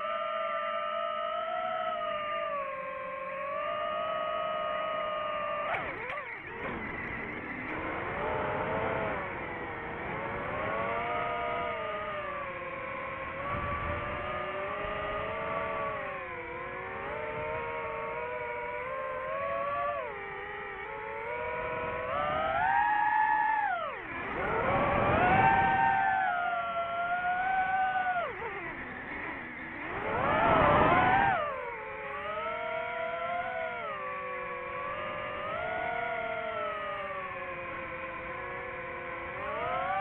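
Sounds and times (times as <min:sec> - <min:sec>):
drone propellers whining: 0:00.0 - 0:40.0.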